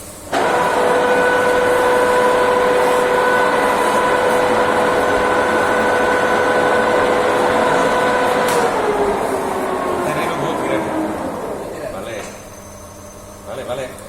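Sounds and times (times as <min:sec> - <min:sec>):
metal lathe whining: 0:00.3 - 0:14.0.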